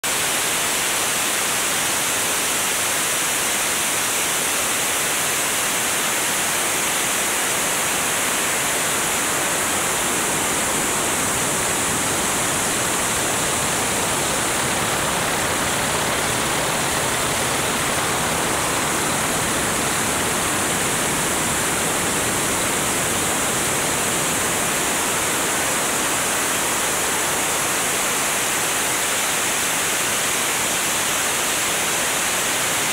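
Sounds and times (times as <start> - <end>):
rushing airflow hiss: 0.2 - 32.9.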